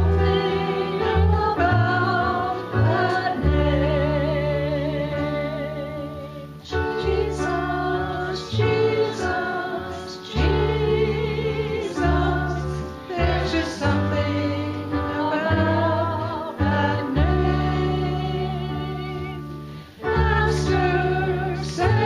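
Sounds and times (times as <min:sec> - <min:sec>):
voices singing a hymn: 0:00.0 - 0:22.0.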